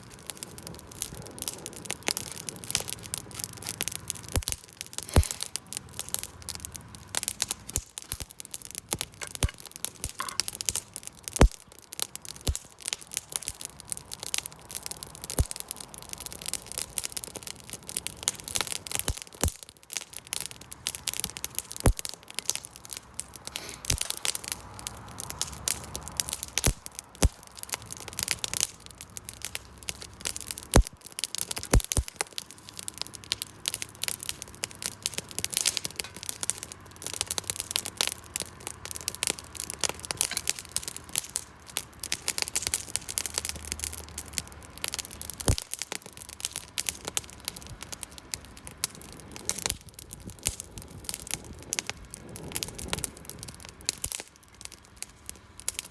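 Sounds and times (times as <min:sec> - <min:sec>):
campfire crackling: 0:00.0 - 0:55.9
sharp fire pops: 0:00.0 - 0:55.9.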